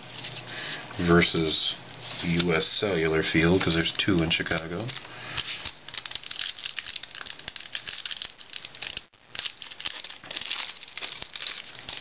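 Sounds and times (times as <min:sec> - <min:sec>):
wrapper crinkling: 0:01.9 - 0:12.0.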